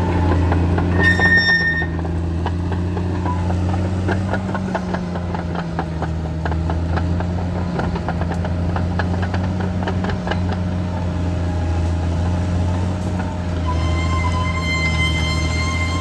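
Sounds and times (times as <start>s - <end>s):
bulldozer diesel engine drone: 0.0s - 16.0s.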